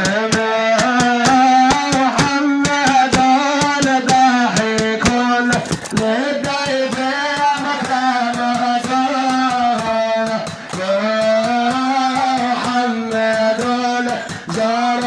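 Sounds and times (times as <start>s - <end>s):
amplified man chanting: 0.0s - 15.0s
sharp percussive strikes: 0.0s - 15.0s.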